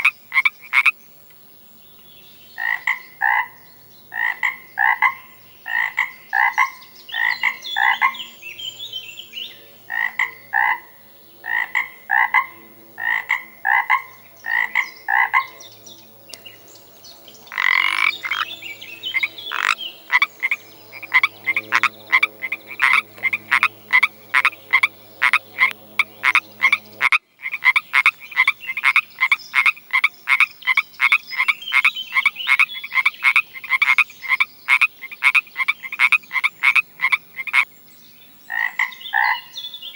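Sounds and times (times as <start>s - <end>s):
frogs croaking: 0.0s - 1.0s, 2.5s - 8.4s, 9.5s - 37.7s, 38.5s - 39.8s.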